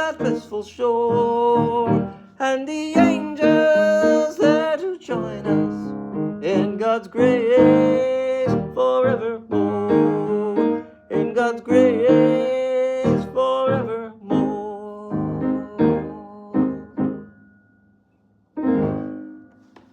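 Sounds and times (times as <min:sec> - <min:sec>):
piano: 0:00.0 - 0:19.9.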